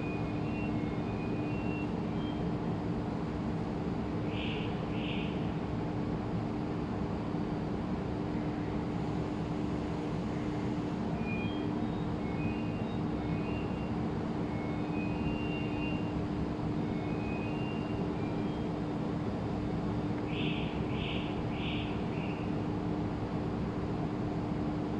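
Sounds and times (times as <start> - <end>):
mechanical hum: 0.0 - 24.9.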